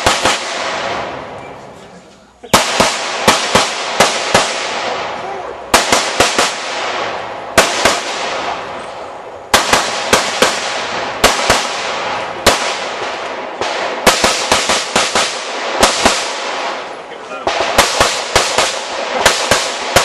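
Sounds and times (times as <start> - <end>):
pistol shots: 0.0 - 1.3, 2.5 - 20.0.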